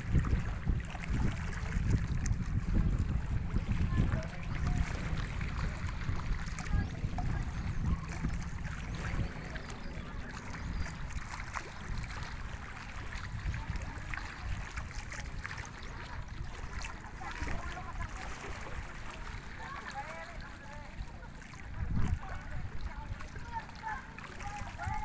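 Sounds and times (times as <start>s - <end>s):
choppy river water: 0.0s - 25.0s
wind buffeting the microphone: 0.0s - 25.0s.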